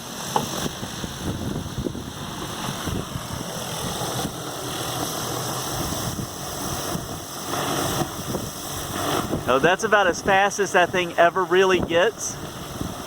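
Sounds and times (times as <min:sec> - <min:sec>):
wind turbine blades whooshing: 0:00.0 - 0:13.0
wind buffeting microphone: 0:00.5 - 0:04.6, 0:05.4 - 0:11.0, 0:11.7 - 0:13.0.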